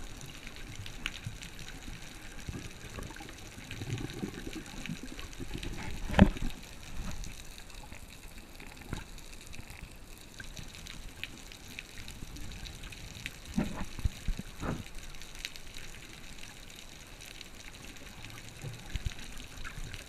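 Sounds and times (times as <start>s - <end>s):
faint underwater clicks: 0.0s - 20.0s
muffled underwater hiss: 0.0s - 20.0s.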